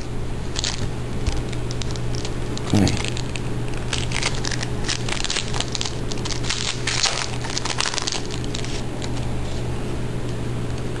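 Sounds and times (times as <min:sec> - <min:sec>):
foil wrapper tearing and crinkling: 0:00.5 - 0:09.4.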